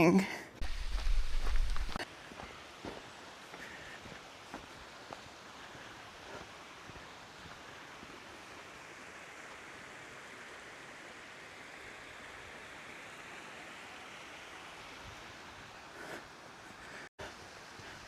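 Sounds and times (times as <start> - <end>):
stream water rushing: 0.6 - 18.0.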